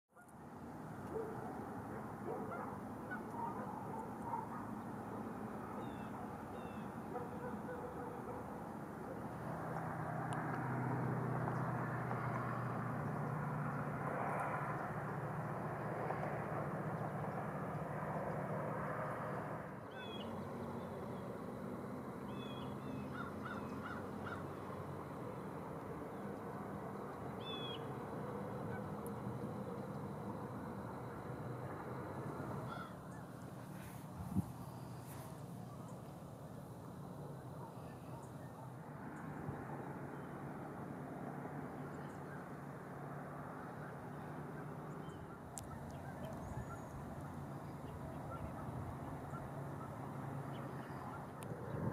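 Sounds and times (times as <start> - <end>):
outdoor background noise: 0.1 - 51.9
distant birds calling: 0.2 - 40.5, 41.6 - 51.9
steady low hum: 0.3 - 51.9
distant geese honking: 1.0 - 17.3, 19.8 - 39.4, 41.6 - 51.9.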